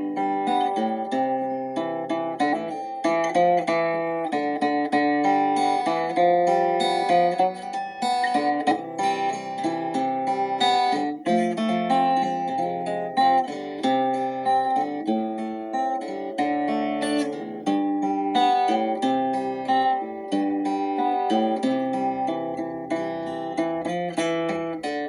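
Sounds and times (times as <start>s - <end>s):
plucked acoustic guitar: 0.0s - 25.0s.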